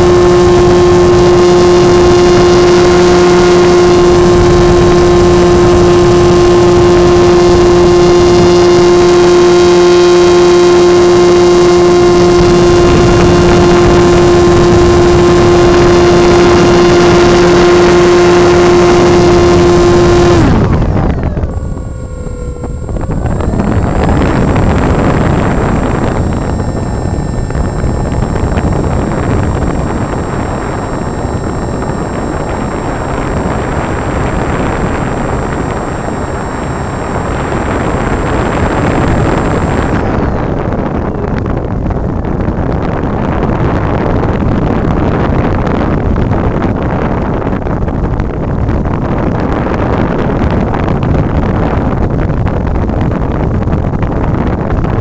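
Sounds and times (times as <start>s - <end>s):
electric motor and propeller whine: 0.0s - 55.0s
wind rushing over microphone: 0.0s - 55.0s.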